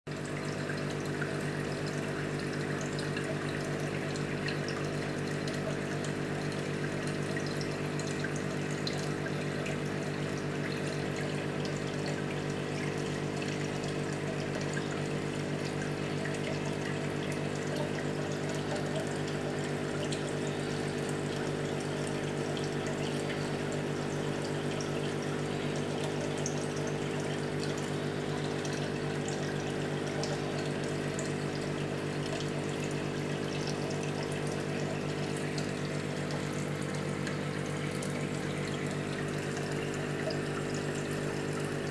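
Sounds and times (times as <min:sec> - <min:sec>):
aquarium pump humming: 0:00.1 - 0:41.9
water running in tank: 0:00.1 - 0:41.9.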